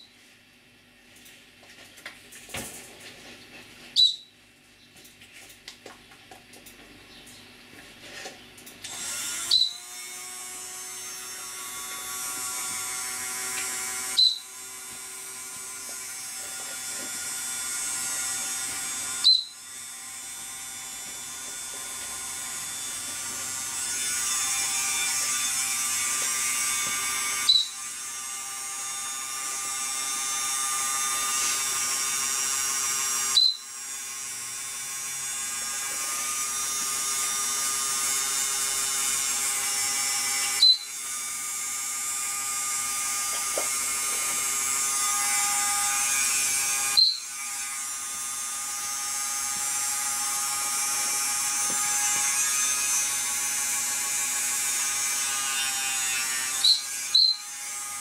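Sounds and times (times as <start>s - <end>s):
rotary nail grinder whining: 8.8s - 58.0s.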